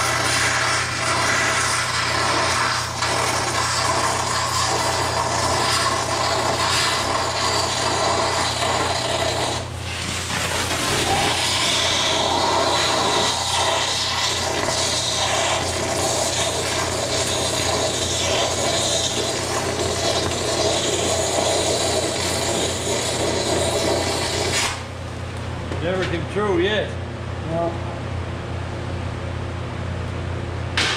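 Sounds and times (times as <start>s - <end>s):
cutting lance hissing: 0.0s - 24.8s
steady low hum: 0.0s - 30.9s.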